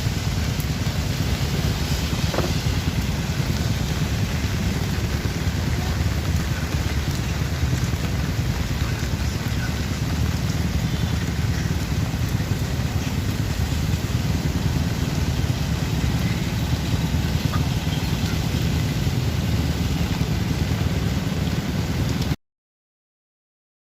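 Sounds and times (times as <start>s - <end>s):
vehicle engine idling: 0.0s - 22.2s
steady rain hiss: 0.0s - 22.4s.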